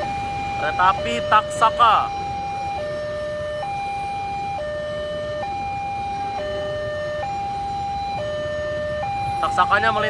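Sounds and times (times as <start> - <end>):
two-tone crossing alarm: 0.0 - 10.0.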